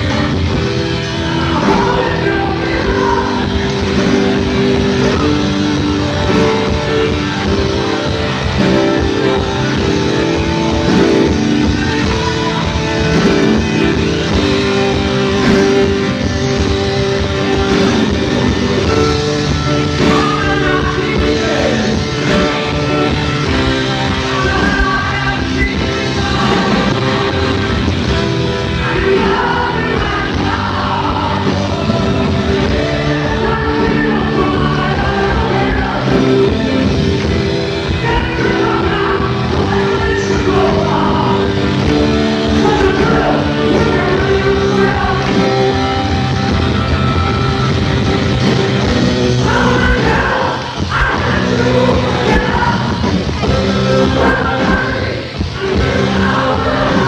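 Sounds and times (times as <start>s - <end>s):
bass and drums: 0.0s - 57.0s
electric guitar: 0.0s - 57.0s
person singing: 0.0s - 57.0s.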